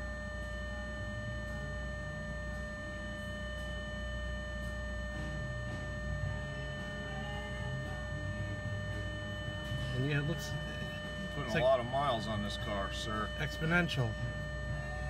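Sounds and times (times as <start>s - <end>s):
high electrical whine: 0.0s - 15.0s
low hum: 0.0s - 15.0s.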